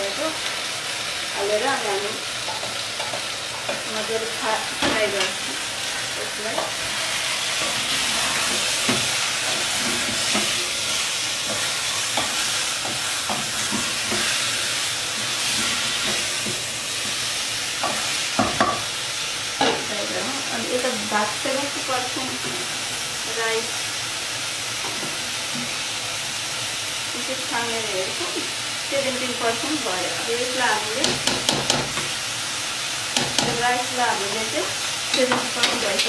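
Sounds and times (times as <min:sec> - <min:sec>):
chicken sizzling in a pot: 0:00.0 - 0:36.0.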